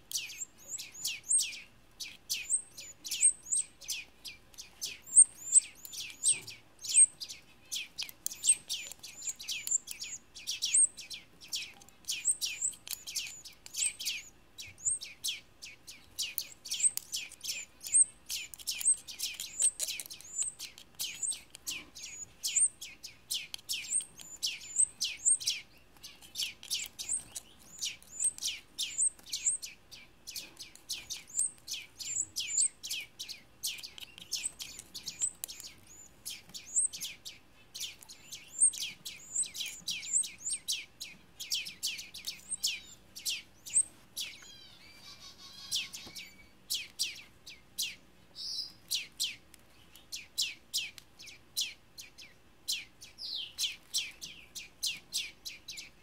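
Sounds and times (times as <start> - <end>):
nestling chirping rapidly: 0.0 - 49.4.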